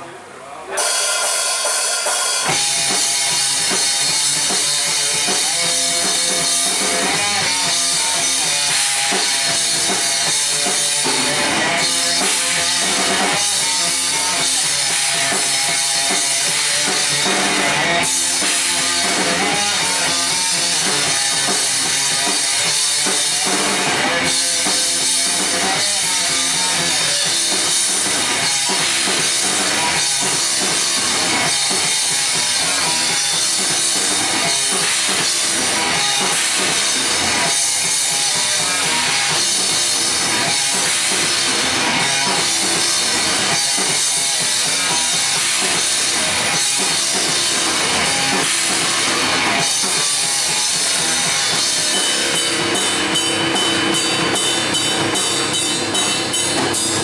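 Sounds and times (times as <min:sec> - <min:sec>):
electric guitar: 0:00.0 - 0:57.0
drum kit: 0:00.7 - 0:57.0
bass guitar: 0:01.6 - 0:57.0.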